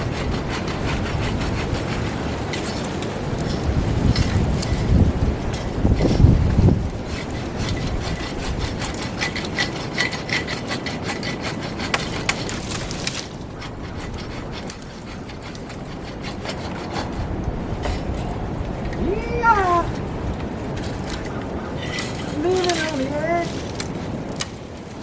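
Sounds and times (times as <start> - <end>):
hand saw cutting branch: 0.0 - 20.0, 20.7 - 24.6
wind on microphone: 0.0 - 25.0.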